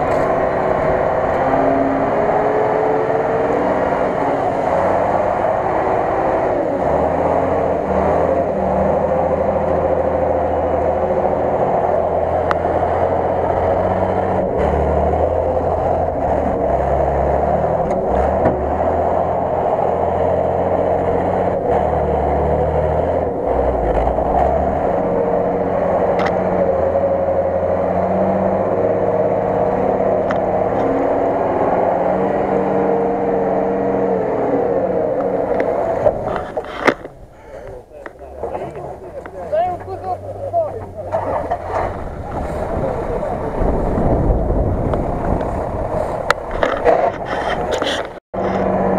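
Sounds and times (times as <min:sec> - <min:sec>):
truck engine under load: 0:00.0 - 0:48.9.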